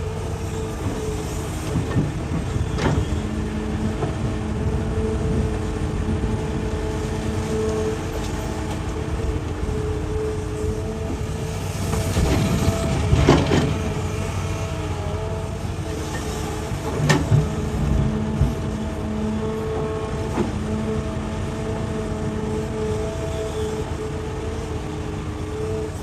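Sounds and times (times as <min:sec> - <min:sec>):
excavator engine and hydraulics: 0:00.0 - 0:26.0.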